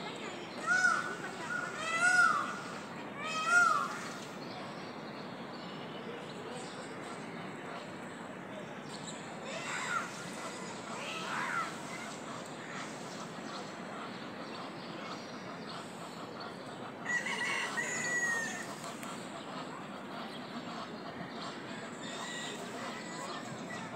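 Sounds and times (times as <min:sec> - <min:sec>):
outdoor background noise: 0:00.0 - 0:23.9.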